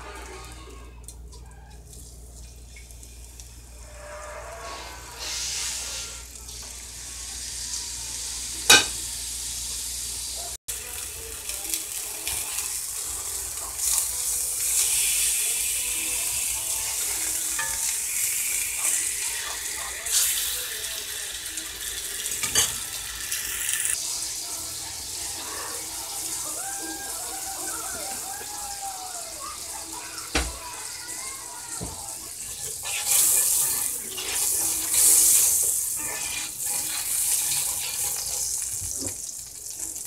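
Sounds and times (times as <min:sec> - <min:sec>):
chicken sizzling in oil: 0:01.4 - 0:40.0.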